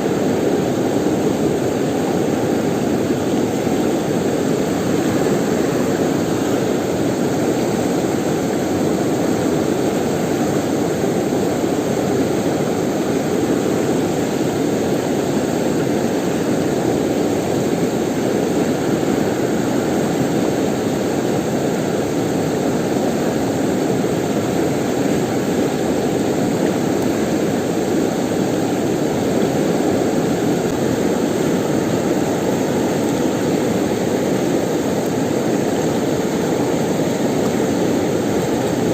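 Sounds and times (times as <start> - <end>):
fast-flowing river roaring: 0.0 - 38.9.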